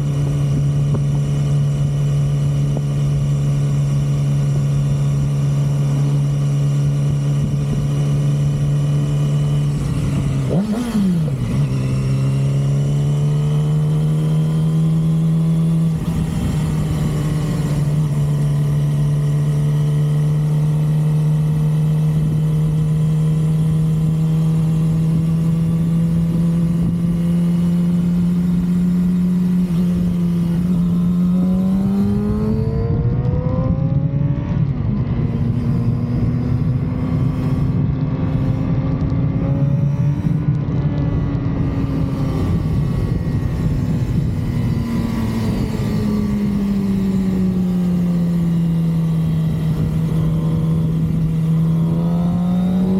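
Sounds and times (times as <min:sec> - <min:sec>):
vehicle engine droning: 0:00.0 - 0:52.9.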